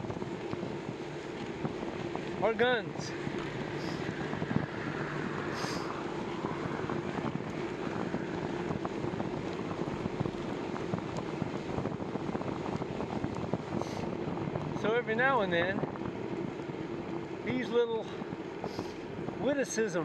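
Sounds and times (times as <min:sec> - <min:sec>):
bicycle rattling ticks: 0:00.0 - 0:05.5, 0:06.1 - 0:19.4
bicycle tyre hum on pavement: 0:00.0 - 0:20.0.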